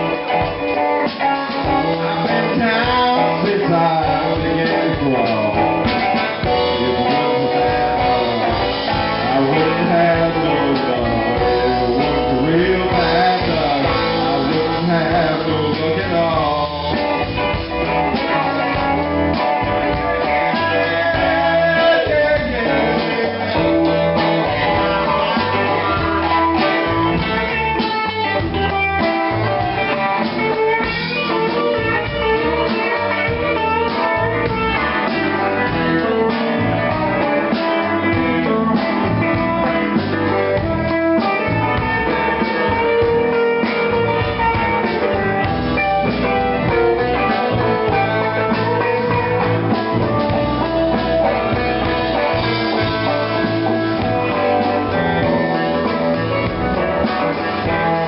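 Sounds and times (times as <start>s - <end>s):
bass guitar: 0.0s - 58.0s
drums: 0.0s - 58.0s
electric guitar lead: 0.0s - 58.0s.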